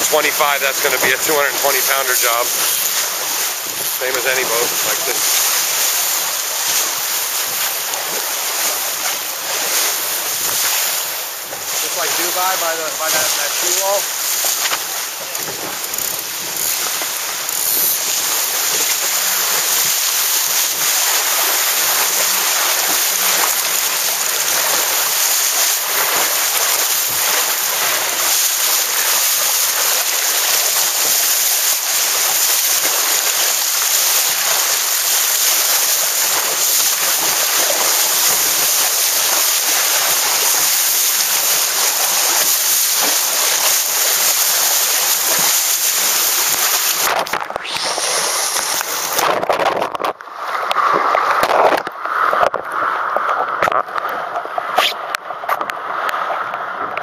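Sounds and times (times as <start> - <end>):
water rushing along boat hull: 0.0 - 57.0.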